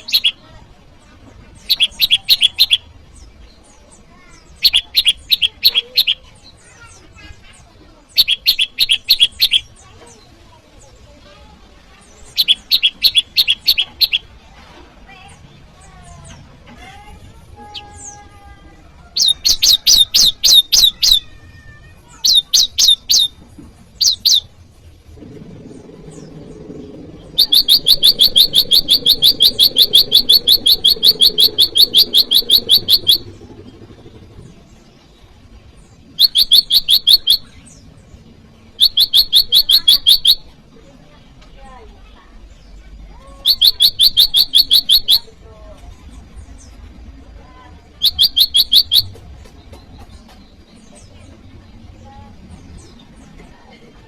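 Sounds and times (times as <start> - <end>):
bird chirping rapidly: 0.0 - 0.6, 1.4 - 14.4, 19.0 - 40.7, 42.4 - 45.4, 47.9 - 53.4.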